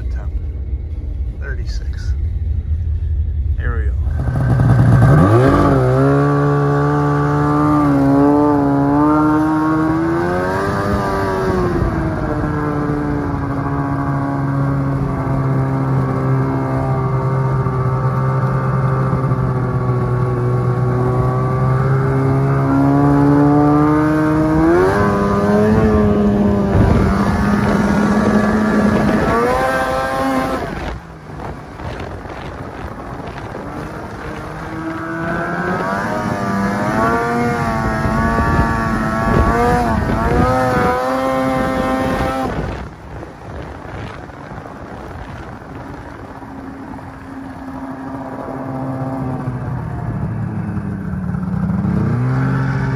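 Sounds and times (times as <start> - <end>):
snowmobile engine revving: 3.6 - 45.9, 46.5 - 52.9.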